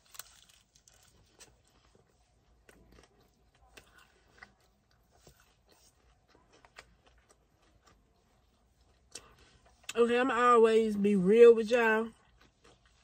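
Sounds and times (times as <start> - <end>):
chewing crispy pizza crust: 0.0 - 13.0.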